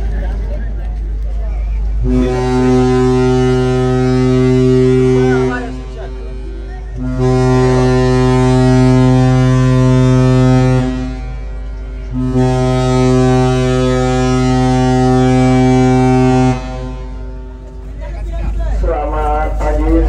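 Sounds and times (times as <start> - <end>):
deep ship horn blasts: 1.8 - 18.0, 18.8 - 20.0.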